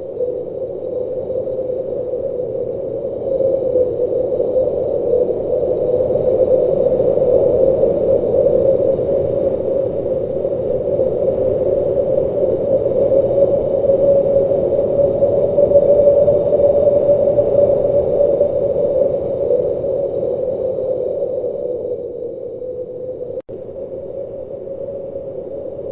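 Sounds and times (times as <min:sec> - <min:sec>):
blizzard wind blowing: 0:00.0 - 0:25.9.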